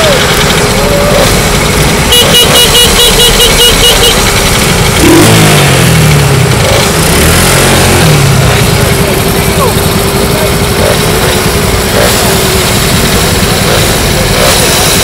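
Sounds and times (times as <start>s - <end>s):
mopeds running and revving: 0.0s - 15.0s.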